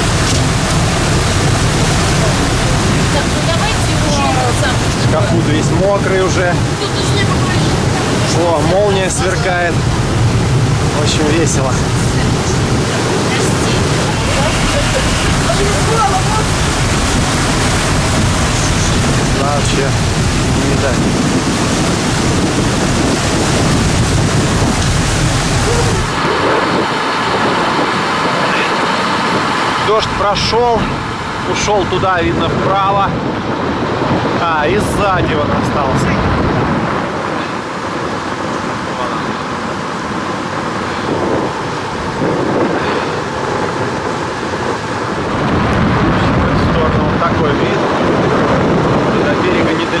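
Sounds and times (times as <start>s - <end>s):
motor boat engine: 0.0s - 50.0s
water rushing and spray: 0.0s - 50.0s
wind buffeting the microphone: 0.0s - 50.0s.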